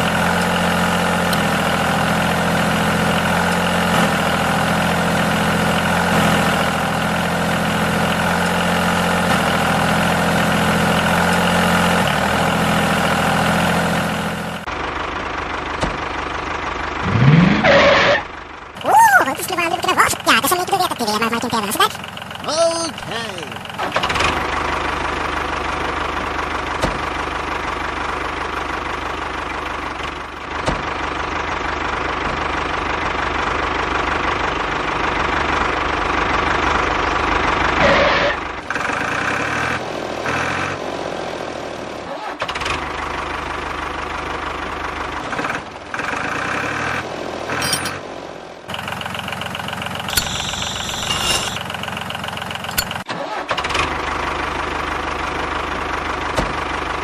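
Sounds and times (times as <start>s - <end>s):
engine-like running sound: 0.0s - 57.0s.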